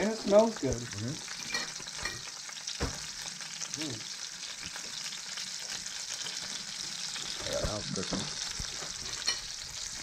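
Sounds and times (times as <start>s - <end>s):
fish sizzling in a skillet: 0.0s - 10.0s.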